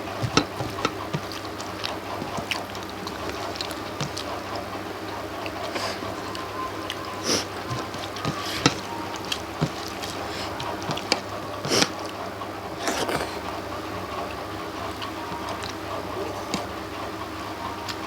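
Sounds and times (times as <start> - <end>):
wet chewing and smacking: 0.0 - 18.0.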